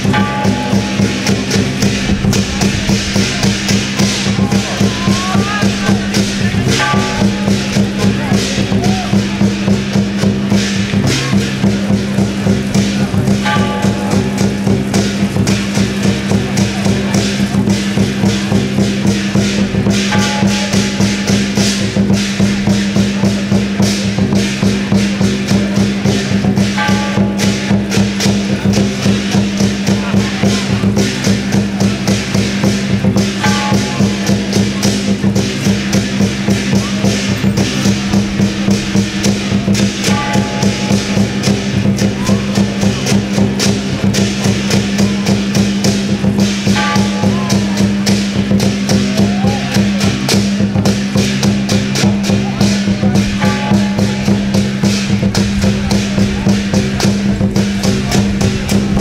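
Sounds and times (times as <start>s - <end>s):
percussion-led music: 0.0s - 59.0s.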